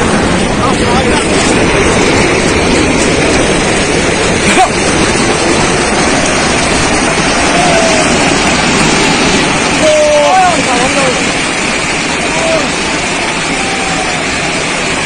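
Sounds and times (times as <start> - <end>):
roar of sliding earth and water: 0.0 - 15.0.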